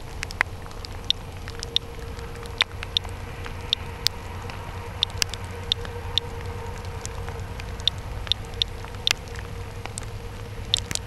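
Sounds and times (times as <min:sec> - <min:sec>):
geiger counter clicking: 0:00.2 - 0:11.0.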